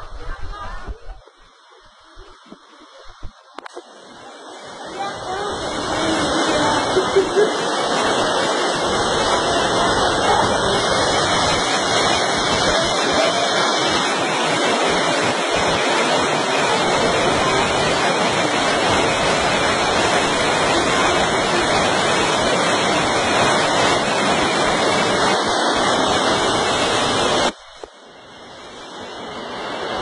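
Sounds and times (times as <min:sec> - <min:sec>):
flood water rushing: 0:00.0 - 0:30.0.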